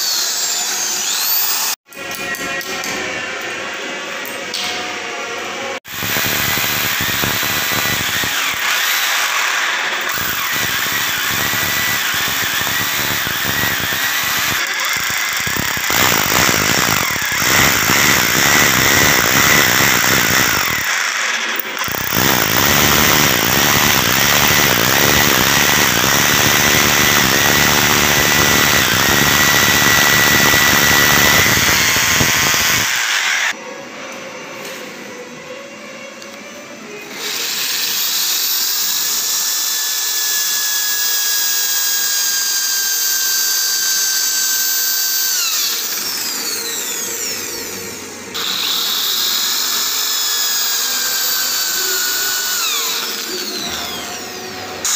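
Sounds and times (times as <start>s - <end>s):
drill bit squealing whine: 0.0s - 1.8s, 5.9s - 33.6s, 37.1s - 54.9s
electric drill grinding into tile: 5.8s - 33.6s, 37.1s - 54.9s.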